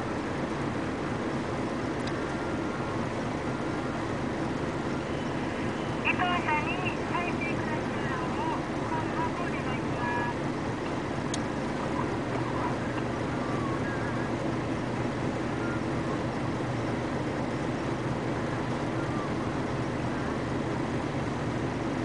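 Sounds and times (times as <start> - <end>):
dump truck idling: 0.0 - 22.0.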